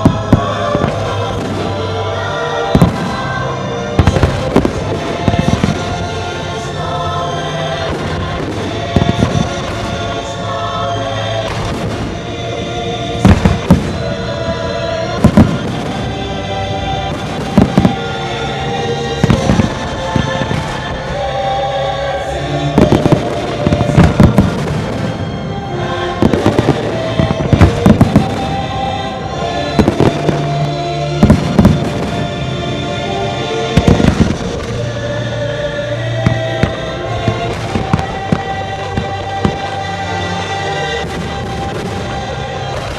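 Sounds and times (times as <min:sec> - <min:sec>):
loud show music: 0:00.0 - 0:42.9.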